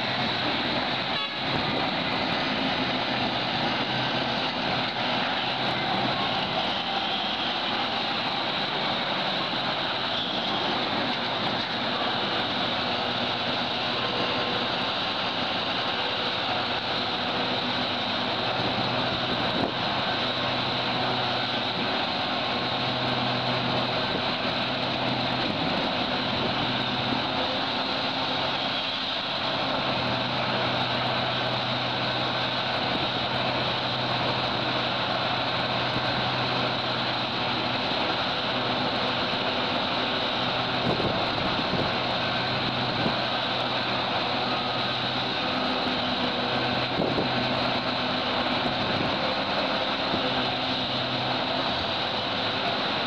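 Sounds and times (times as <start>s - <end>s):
heavy diesel engines droning: 0.0s - 53.0s.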